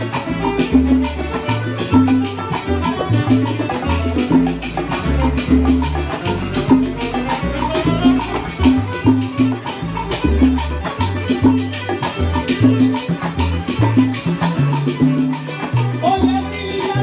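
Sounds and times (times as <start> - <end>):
salsa band playing: 0.0 - 17.0.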